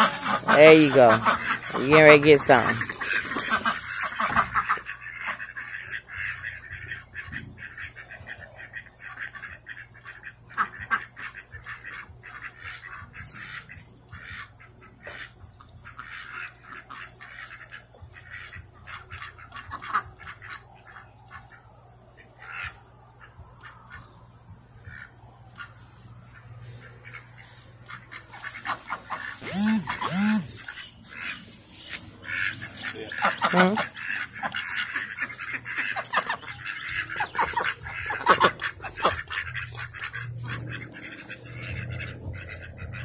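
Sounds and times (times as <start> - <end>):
ducks quacking: 0.0 - 43.0.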